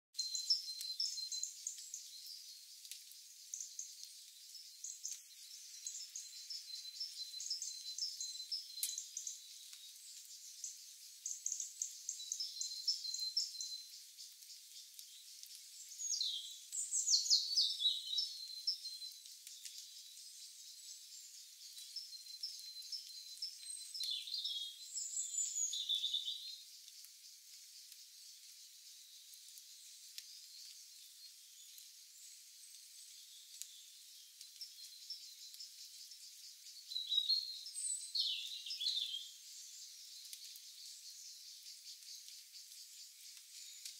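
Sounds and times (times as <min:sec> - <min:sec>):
falling bird song phrases: 0:00.2 - 0:43.9
songbirds chirping and twittering: 0:00.2 - 0:43.9.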